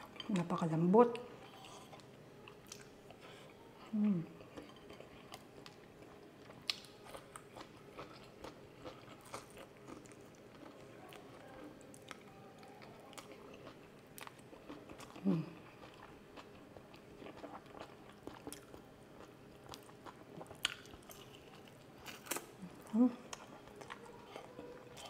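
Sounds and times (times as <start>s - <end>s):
wet chewing: 1.2s - 25.0s.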